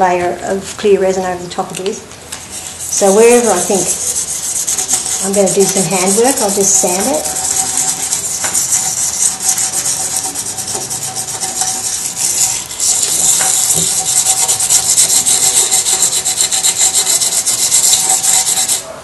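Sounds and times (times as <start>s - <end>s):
sandpaper scratching on resin: 2.4s - 18.8s.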